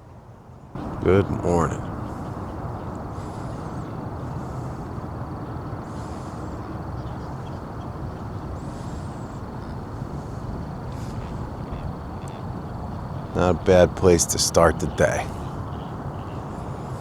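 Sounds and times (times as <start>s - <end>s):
wind buffeting microphone: 0.8s - 17.0s.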